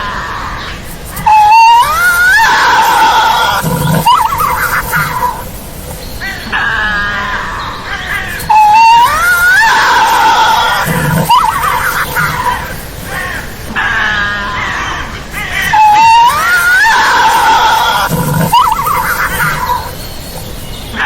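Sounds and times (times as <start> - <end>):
tasmanian devil screaming: 0.0 - 5.6, 6.2 - 20.0.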